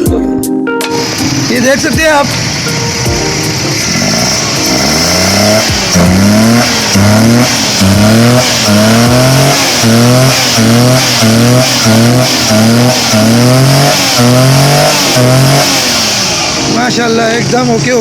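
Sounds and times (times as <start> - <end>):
car engine revving: 0.9 - 18.0.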